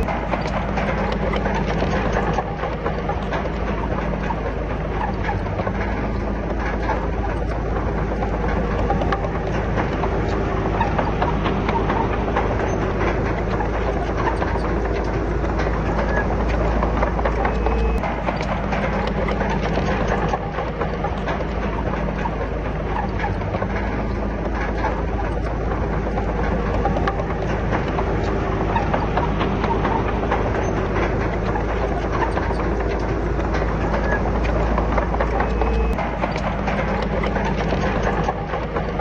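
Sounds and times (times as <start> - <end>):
bulldozer diesel engine under load: 0.0 - 39.0
steel tracks clanking: 0.0 - 39.0.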